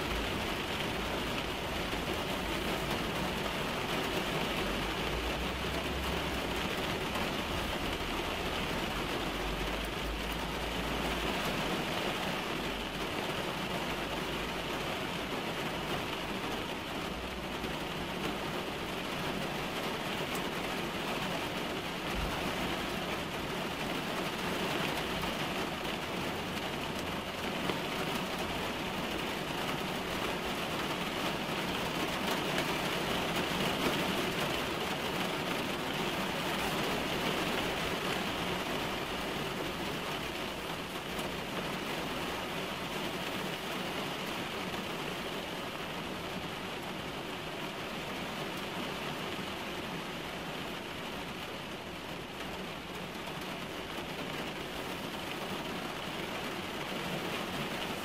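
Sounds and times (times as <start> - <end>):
rain on a car roof: 0.0 - 58.0.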